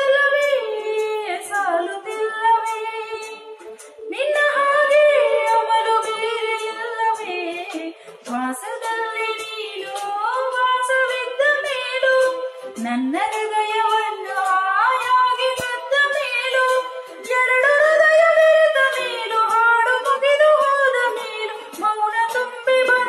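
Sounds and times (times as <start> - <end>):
woman singing into microphone: 0.0 - 23.0.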